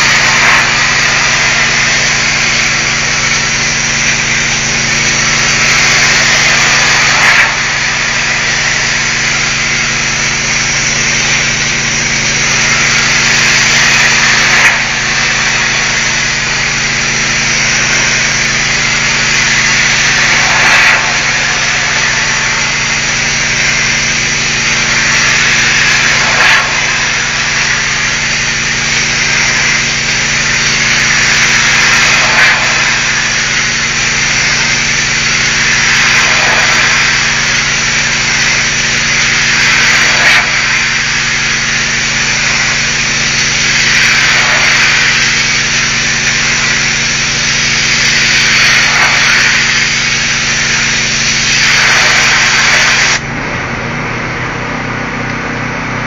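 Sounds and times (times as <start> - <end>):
engine humming: 0.0 - 48.1
pressure washer spray hissing: 0.0 - 53.3.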